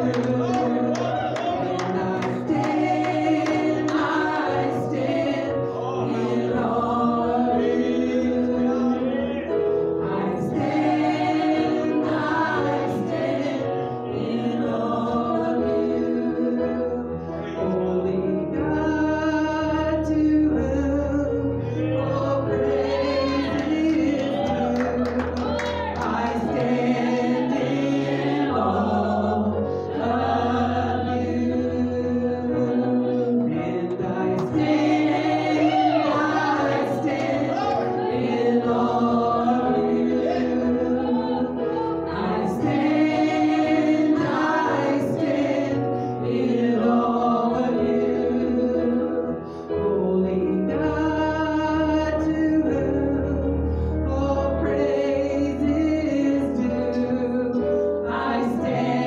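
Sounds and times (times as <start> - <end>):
women singing gospel song: 0.0 - 9.4, 10.0 - 59.0.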